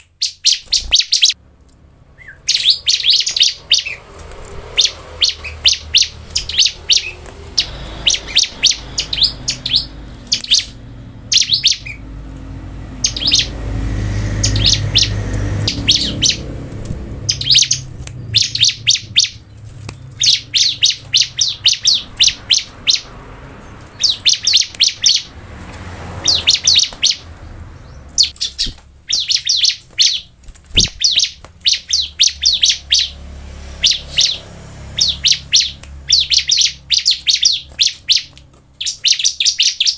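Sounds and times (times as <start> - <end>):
bird singing rapid high chirps: 0.0 - 1.4, 2.0 - 39.9.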